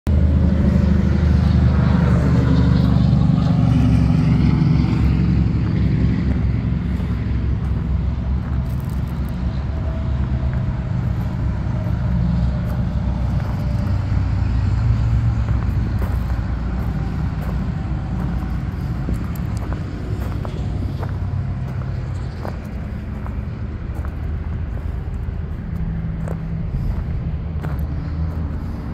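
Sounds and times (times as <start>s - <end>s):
vehicle engine droning: 0.1s - 28.9s.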